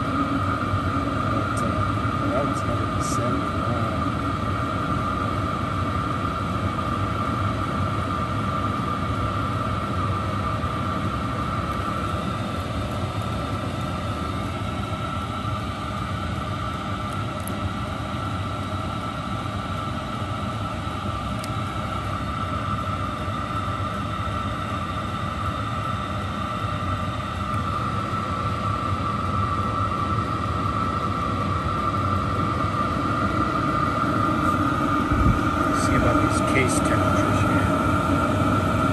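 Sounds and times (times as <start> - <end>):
air heater blower roar: 0.0 - 38.9
high whine: 0.0 - 38.9.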